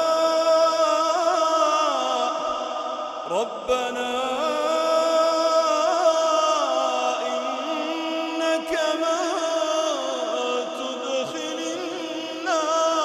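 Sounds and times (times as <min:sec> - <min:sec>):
melodic quran recitation: 0:00.0 - 0:13.0.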